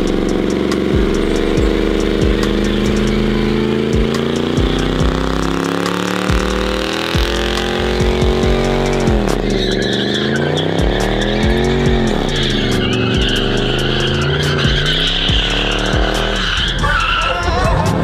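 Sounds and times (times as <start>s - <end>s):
truck engine revving hard: 0.0s - 18.0s
tyre squealing: 0.0s - 18.0s.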